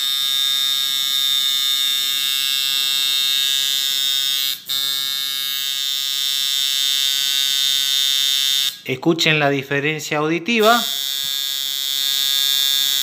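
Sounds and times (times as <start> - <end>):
tattoo machine buzzing: 0.0 - 8.9, 10.6 - 13.0.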